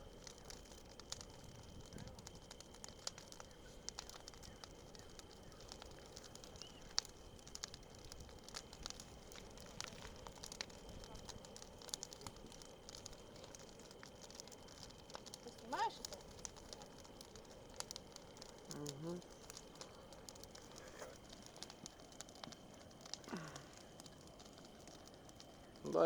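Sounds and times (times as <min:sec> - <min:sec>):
sharp fire pops: 0:00.0 - 0:26.0
wood bonfire crackling: 0:00.0 - 0:26.0.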